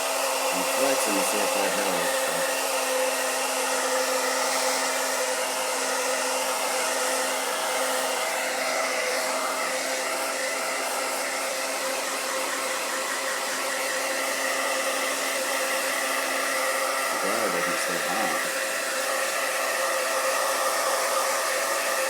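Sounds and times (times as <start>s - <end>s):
hair dryer blowing air: 0.0s - 22.0s.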